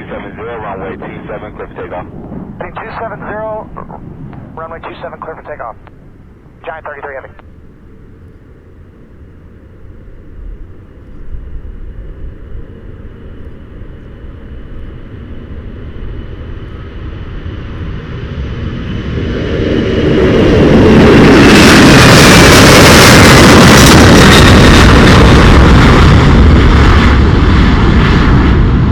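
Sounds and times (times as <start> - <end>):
jet engines rumbling at takeoff: 0.0 - 28.9.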